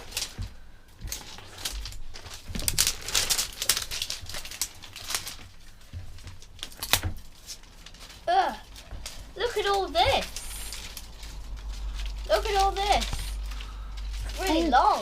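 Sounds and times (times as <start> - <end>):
wrapping crinkling and tearing: 0.0 - 15.0.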